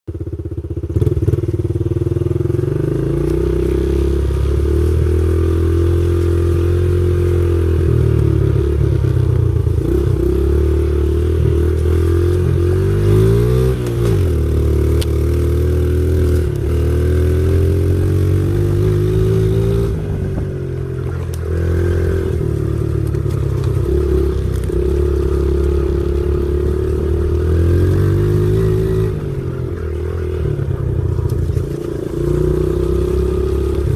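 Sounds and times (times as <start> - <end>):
pit bike engine revving: 2.4 - 33.9.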